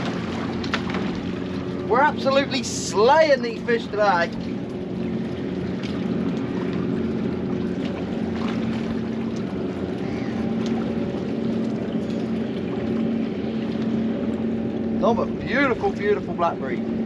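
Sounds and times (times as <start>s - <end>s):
boat engine humming: 0.0s - 17.0s
water noise: 0.0s - 17.0s
wind: 0.0s - 17.0s.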